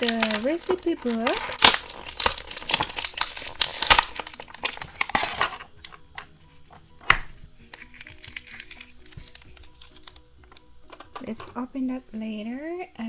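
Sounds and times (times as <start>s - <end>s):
plastic packaging crinkling: 0.0s - 12.4s
soft background music: 0.0s - 13.0s.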